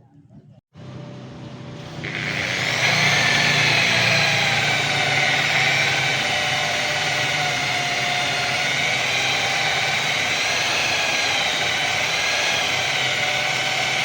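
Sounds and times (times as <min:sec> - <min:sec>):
orbital sander whirring: 0:01.7 - 0:14.0.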